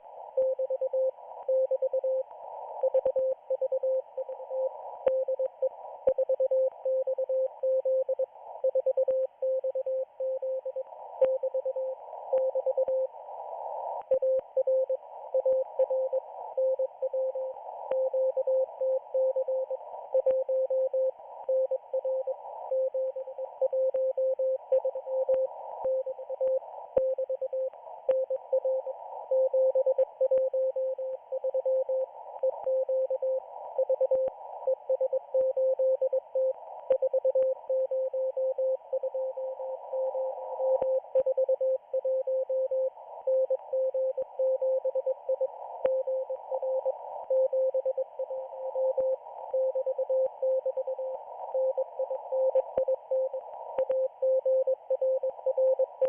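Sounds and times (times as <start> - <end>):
static hiss with crackles: 0.0 - 56.0.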